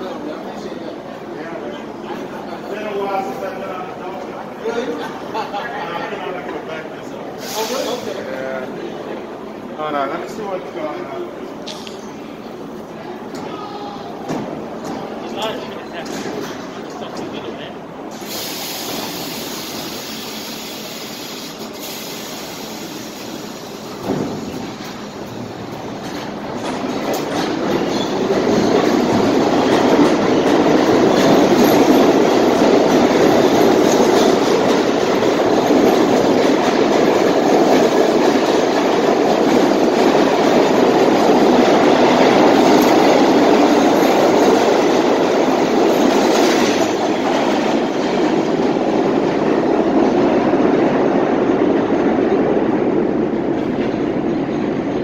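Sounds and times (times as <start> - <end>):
subway train rumbling on rails: 0.0 - 55.0.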